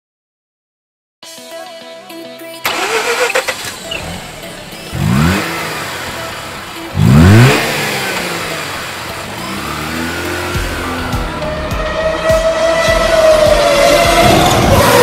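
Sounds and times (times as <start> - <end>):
rotary engine revving: 2.7 - 15.0.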